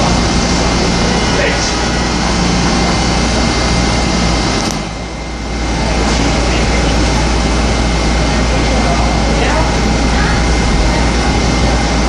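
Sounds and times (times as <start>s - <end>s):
subway train rumbling on rails: 0.0s - 12.0s
thin steady whine: 0.0s - 12.0s.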